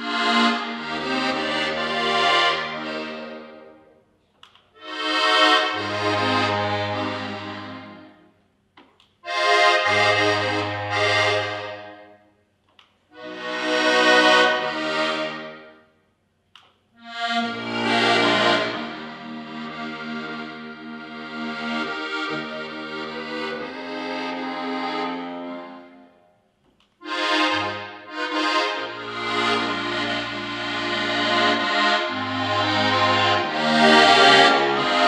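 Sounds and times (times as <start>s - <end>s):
button accordion playing chords: 0.0s - 3.9s, 4.8s - 8.3s, 9.2s - 12.2s, 13.1s - 15.8s, 17.0s - 26.2s, 27.0s - 35.0s.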